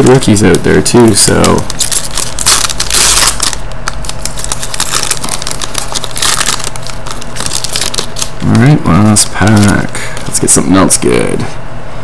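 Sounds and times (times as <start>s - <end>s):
foil wrappers crinkling: 0.1s - 10.6s.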